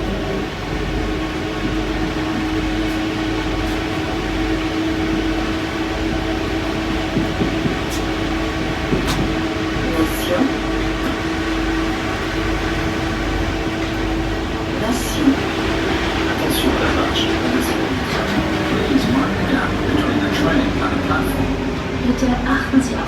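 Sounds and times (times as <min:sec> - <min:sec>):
train rolling noise: 0:00.0 - 0:23.0.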